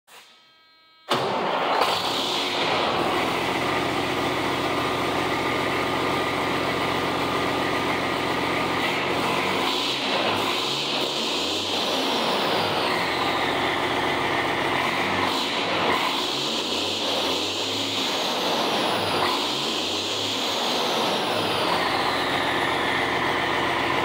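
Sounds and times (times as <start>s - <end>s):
diesel truck engine starting and idling: 1.1s - 24.0s.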